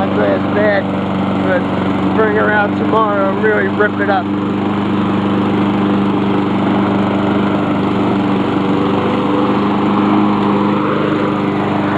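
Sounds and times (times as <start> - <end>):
lawn mower engine running: 0.0 - 11.9.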